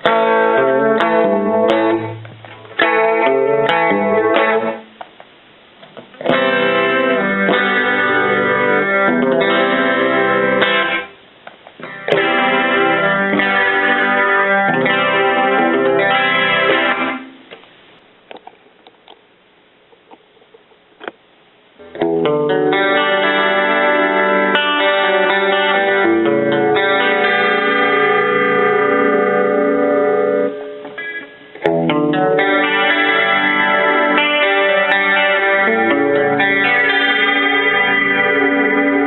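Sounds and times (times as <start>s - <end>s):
clean electric guitar chords: 0.0s - 5.0s, 5.9s - 11.2s, 11.8s - 17.5s, 21.8s - 39.0s.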